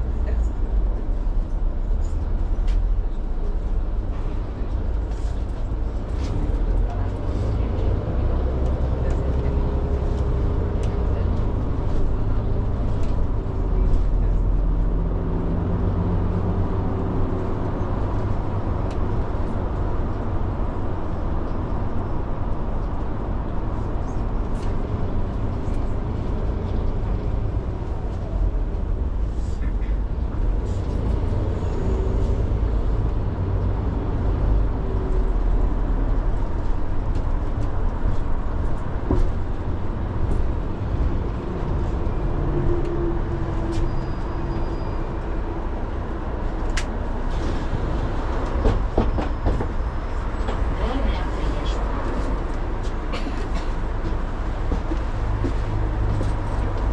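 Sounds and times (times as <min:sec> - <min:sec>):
bus engine and road rumble: 0:00.0 - 0:56.9.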